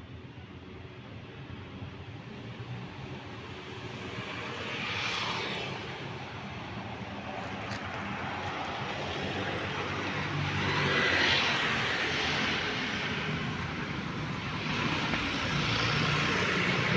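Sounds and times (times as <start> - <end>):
car engines passing: 2.4 - 16.9.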